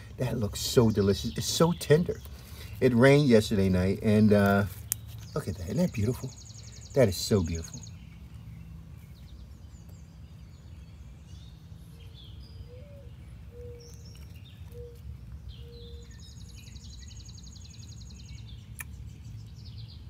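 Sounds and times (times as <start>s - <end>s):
birds chirping and calling: 0.0s - 20.0s
high bird trill: 0.0s - 20.0s.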